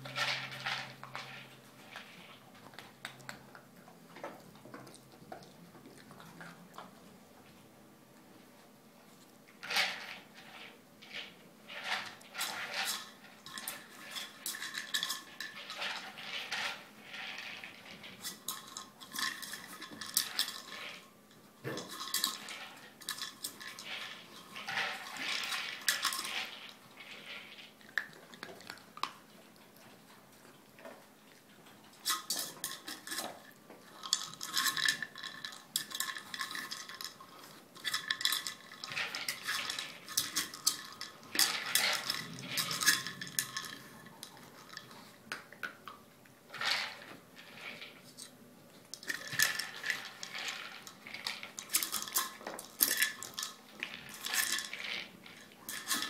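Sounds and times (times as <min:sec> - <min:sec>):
dry treats rattling in plastic toys: 0:00.0 - 0:03.5, 0:09.6 - 0:29.2, 0:31.9 - 0:56.0.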